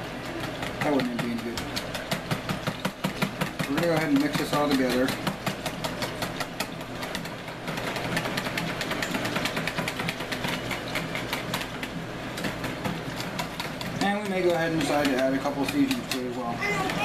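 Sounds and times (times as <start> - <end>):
whisk clattering against bowl: 0.4 - 17.0.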